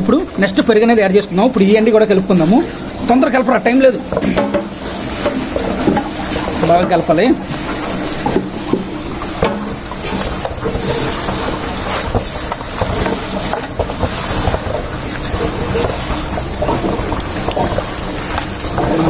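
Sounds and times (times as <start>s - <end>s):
wet squelching of hand mixing: 0.0s - 19.0s.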